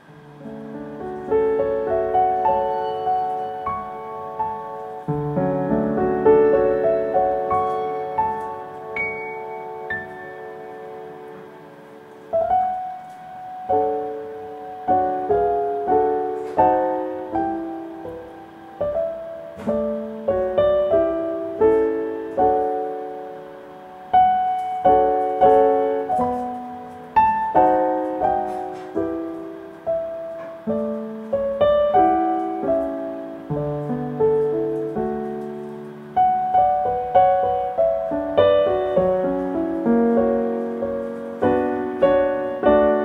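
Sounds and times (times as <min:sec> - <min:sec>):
gentle solo piano: 0:00.0 - 0:43.0.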